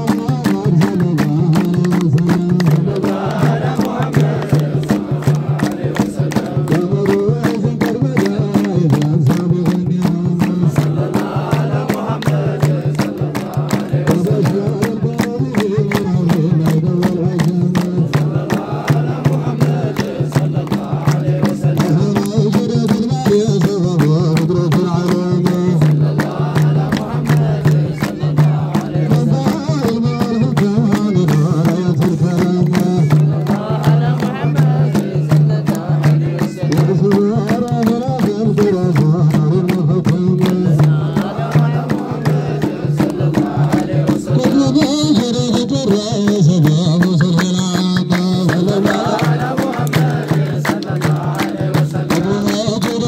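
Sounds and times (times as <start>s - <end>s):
hands clapping in time: 0.0s - 53.0s
hide drum beaten with stick: 0.0s - 53.0s
man singing through microphone: 0.0s - 53.0s.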